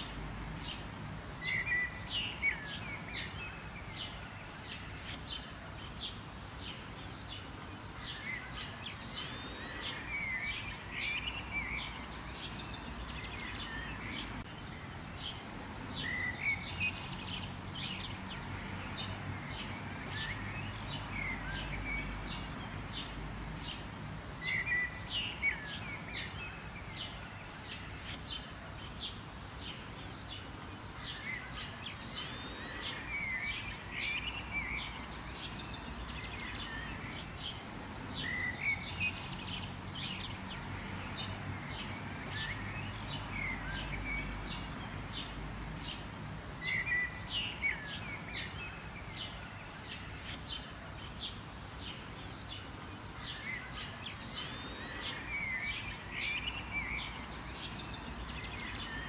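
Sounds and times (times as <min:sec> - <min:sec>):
small birds chirping and singing: 0:00.0 - 0:59.0.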